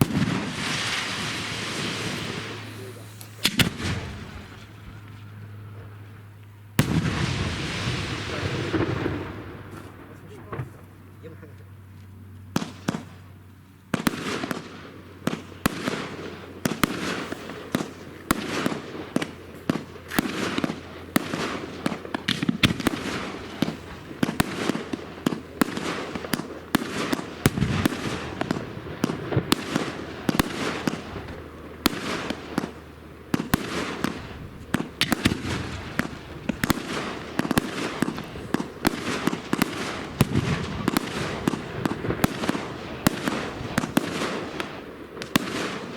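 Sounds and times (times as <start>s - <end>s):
fireworks launching and banging: 0.0s - 5.2s, 6.8s - 10.8s, 13.9s - 45.9s.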